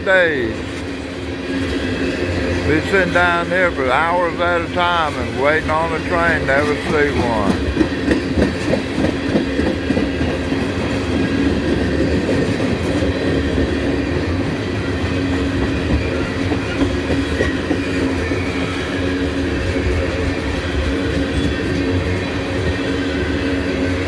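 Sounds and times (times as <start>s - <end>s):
freight train wheels growling on rails: 0.0s - 24.0s.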